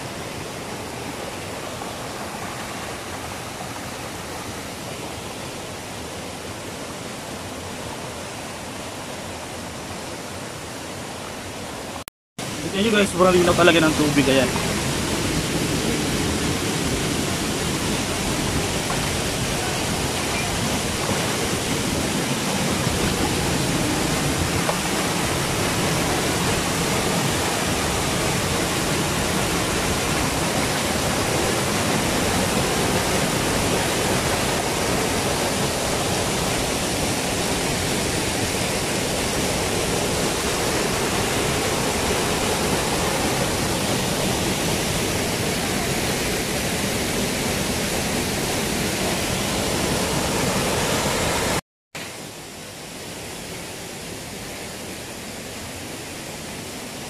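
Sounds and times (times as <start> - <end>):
stream running over rocks: 0.0 - 57.0
waterfall rushing: 0.0 - 57.0.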